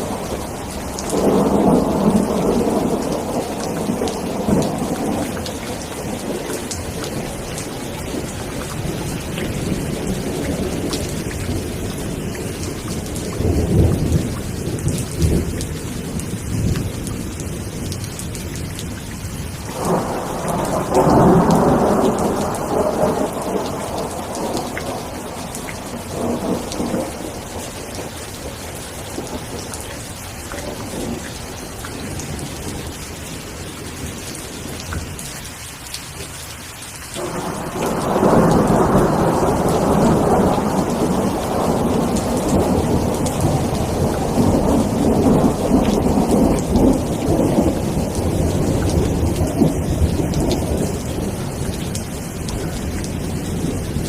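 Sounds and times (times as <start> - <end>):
thunder rumbling: 0.0 - 35.2, 37.2 - 54.0
heavy rain: 0.0 - 54.0.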